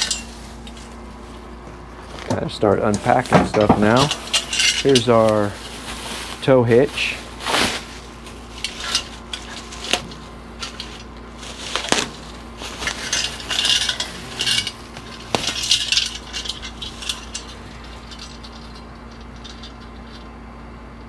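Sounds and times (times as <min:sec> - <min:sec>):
metal parts clinking: 0:00.0 - 0:01.0, 0:02.6 - 0:20.3.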